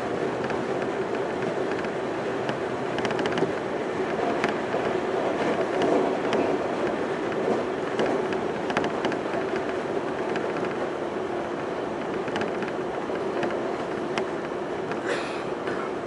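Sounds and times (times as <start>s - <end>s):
train rumble with low tone: 0.0s - 16.0s.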